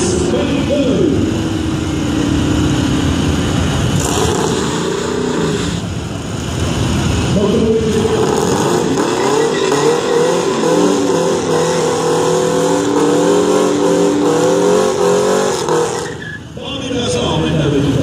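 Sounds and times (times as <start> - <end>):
car engines idling: 0.0 - 18.0.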